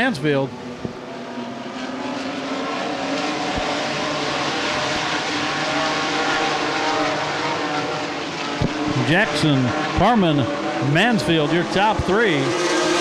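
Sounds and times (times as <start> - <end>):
race truck engines at speed: 0.0 - 13.0.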